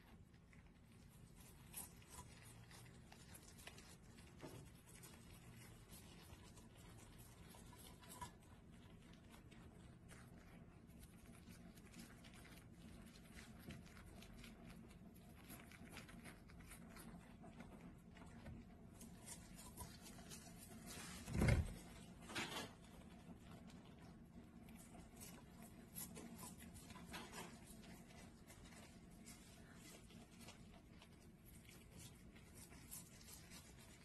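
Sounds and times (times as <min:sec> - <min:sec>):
animal chewing crisp shoots: 0:00.0 - 0:34.0.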